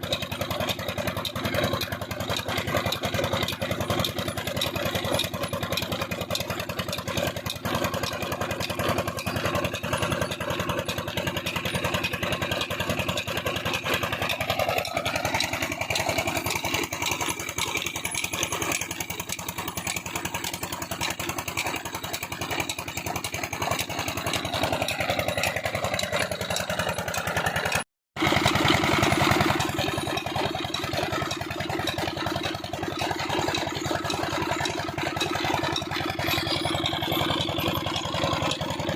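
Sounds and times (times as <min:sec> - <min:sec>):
diesel engine knocking: 0:00.0 - 0:38.9.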